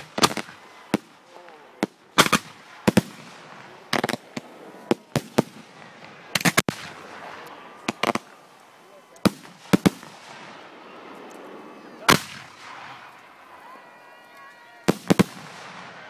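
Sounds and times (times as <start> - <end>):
faint steady background noise: 0.0 - 16.0
fireworks bursting: 0.0 - 16.0.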